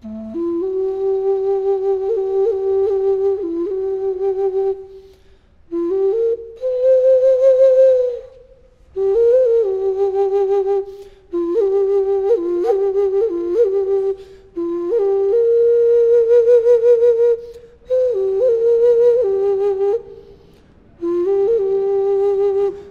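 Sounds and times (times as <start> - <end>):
flute with wavering trills: 0.0 - 22.9.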